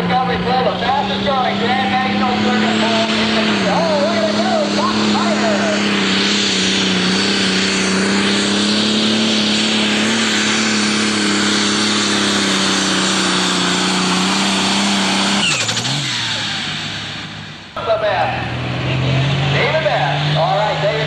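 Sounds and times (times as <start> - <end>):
diesel tractor engine at full load: 0.0 - 21.0.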